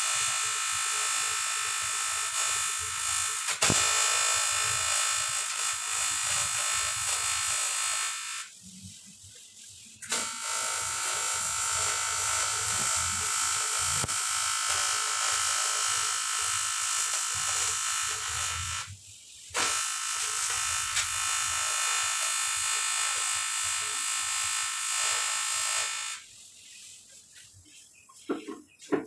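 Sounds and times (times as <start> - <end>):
welding arc buzzing hiss: 0.0 - 27.1.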